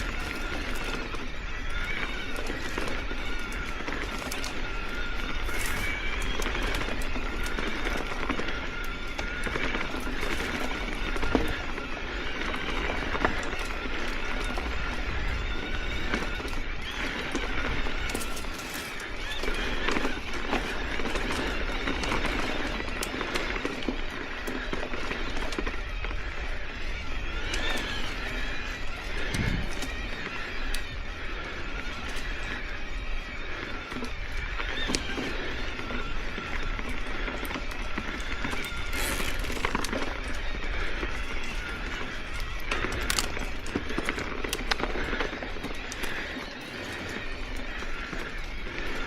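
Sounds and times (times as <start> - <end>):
bike clicks and rattles: 0.0 - 49.0
electric bike motor whining: 0.0 - 49.0
tyre and trail noise: 0.0 - 49.0.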